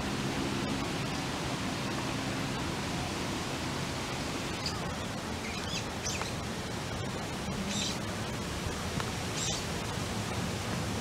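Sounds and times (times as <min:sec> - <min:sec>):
even outdoor hiss: 0:00.0 - 0:11.0.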